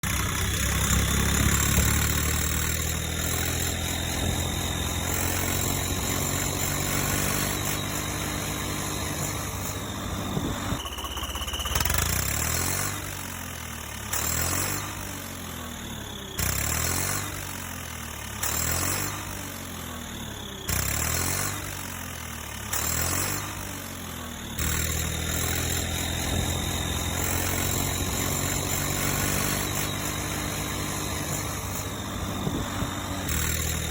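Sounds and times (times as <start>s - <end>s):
tractor engine revving: 0.0s - 33.9s.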